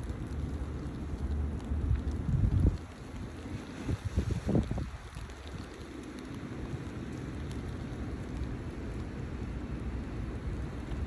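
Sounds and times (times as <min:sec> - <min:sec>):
wet snow falling hiss: 0:00.0 - 0:11.0
wind rumble on microphone: 0:00.0 - 0:11.0.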